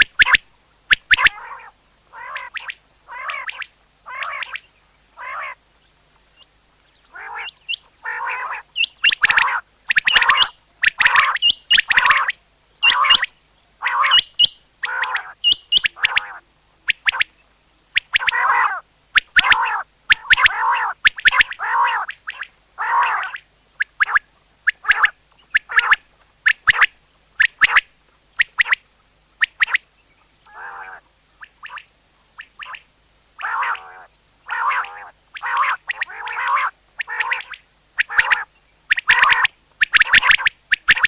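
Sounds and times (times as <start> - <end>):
quail calling: 0.0 - 5.6, 7.0 - 17.3, 18.0 - 28.8, 30.4 - 32.8, 33.4 - 41.0.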